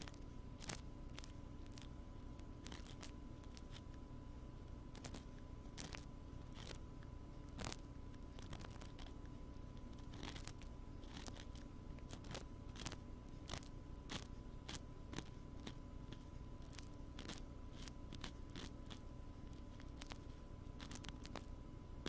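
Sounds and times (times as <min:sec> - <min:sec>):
ear-cleaning tool scratching: 0:00.0 - 0:04.0, 0:04.9 - 0:21.5
faint steady hum: 0:00.0 - 0:22.0.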